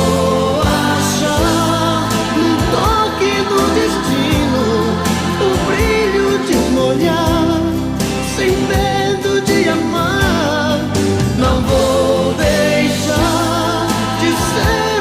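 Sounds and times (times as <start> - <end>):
instrumental backing: 0.0 - 15.0
person singing: 0.0 - 15.0.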